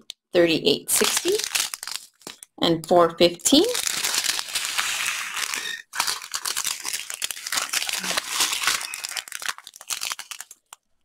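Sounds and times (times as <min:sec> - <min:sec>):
plastic bags crinkling: 0:01.0 - 0:02.5, 0:03.5 - 0:11.0.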